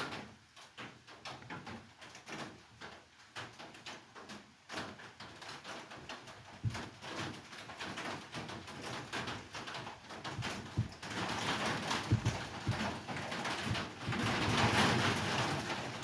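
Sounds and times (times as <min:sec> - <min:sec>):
small knocks and clicks of hands: 0:00.1 - 0:16.0.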